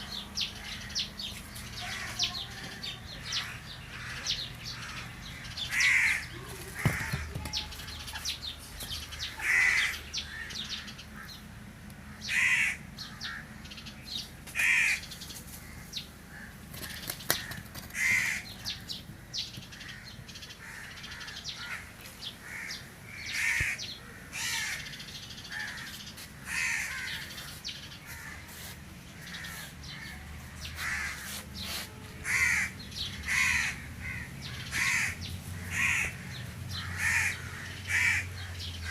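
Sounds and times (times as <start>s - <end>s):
crows cawing: 1.8s - 7.4s, 9.1s - 11.4s, 12.1s - 13.6s, 14.6s - 18.5s, 19.7s - 31.4s, 32.2s - 38.9s.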